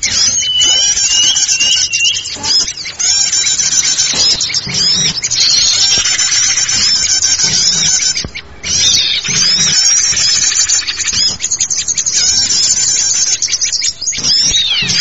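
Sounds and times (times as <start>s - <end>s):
small birds chirping and calling: 0.0s - 15.0s.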